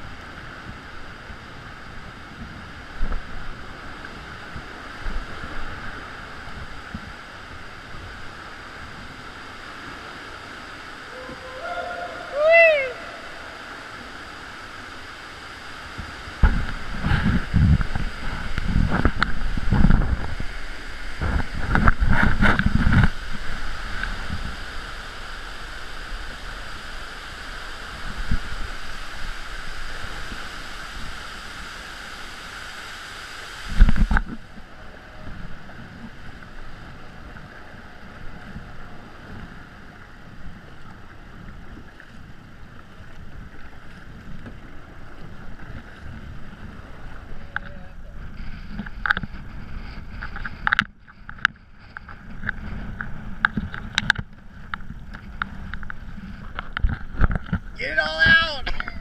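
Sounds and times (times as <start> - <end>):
water splashing around kayak: 0.0 - 59.0.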